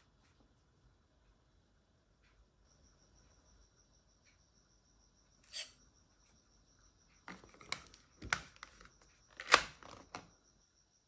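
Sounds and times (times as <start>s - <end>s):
faint high-pitched whine: 0.0s - 11.0s.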